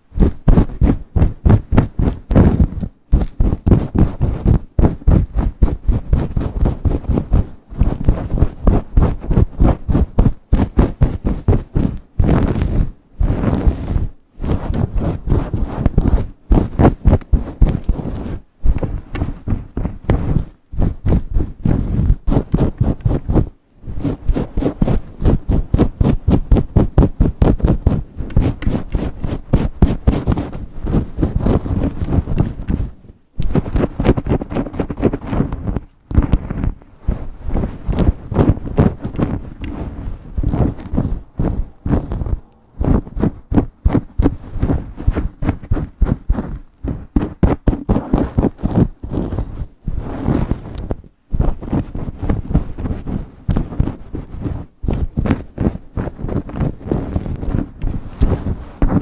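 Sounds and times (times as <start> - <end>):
nails scratching hair and scalp: 0.0 - 59.0.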